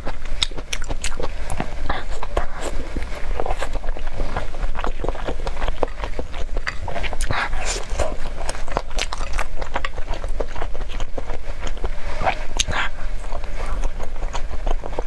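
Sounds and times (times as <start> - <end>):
person biting and chewing food: 0.0 - 15.0
steady low hum: 0.0 - 15.0.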